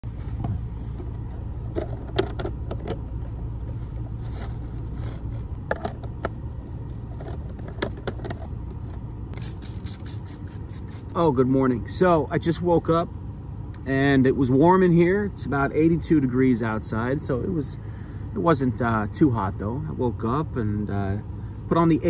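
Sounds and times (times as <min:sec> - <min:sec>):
low hum inside car: 0:00.0 - 0:22.0.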